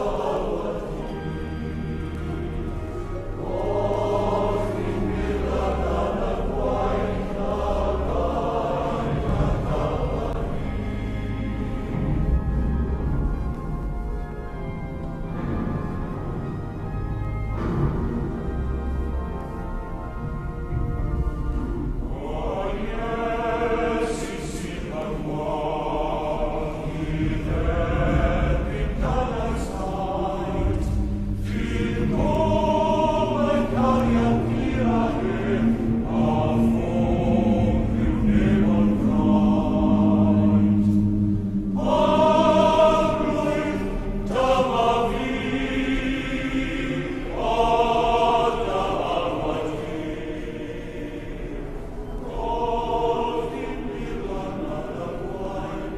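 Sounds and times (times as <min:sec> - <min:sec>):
choir-like soundtrack music: 0:00.0 - 0:55.9.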